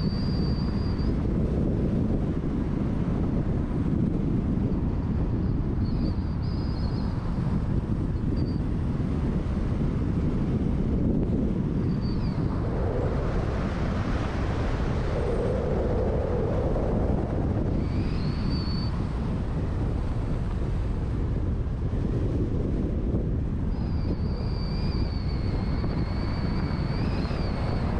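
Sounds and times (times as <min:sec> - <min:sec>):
wind noise on microphone: 0:00.0 - 0:27.9.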